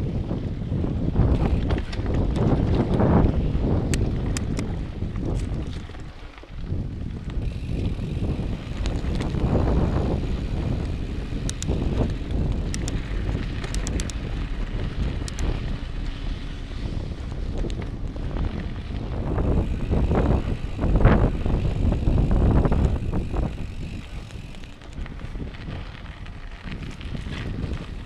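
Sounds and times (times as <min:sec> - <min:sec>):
bike tyre rumble: 0:00.0 - 0:28.0
wind buffeting microphone: 0:00.0 - 0:28.0
bike rattling clicks: 0:00.9 - 0:28.0.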